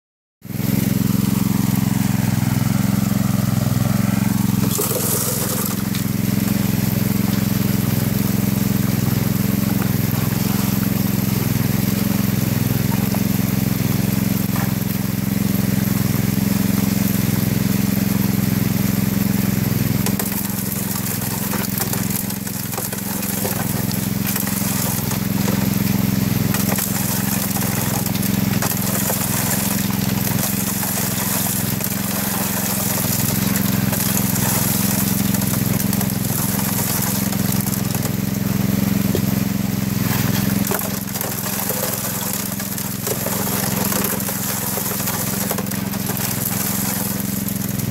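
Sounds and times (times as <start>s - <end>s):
small water pump engine running: 0.4s - 47.9s
water rushing and splashing: 0.4s - 47.9s.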